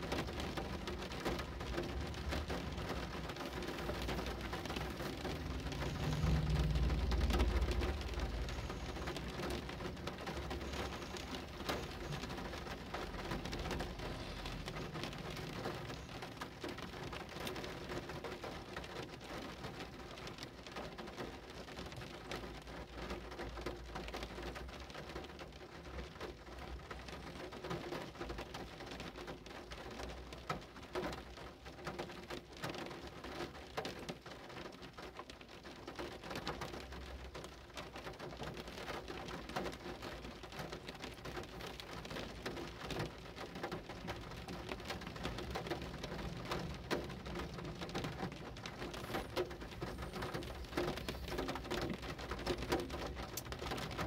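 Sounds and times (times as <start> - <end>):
raindrops hitting a surface: 0.0 - 54.0.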